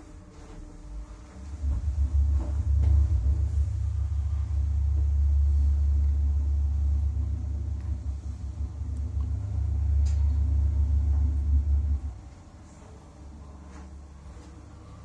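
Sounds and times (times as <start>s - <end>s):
lift car rumbling: 0.0s - 15.0s.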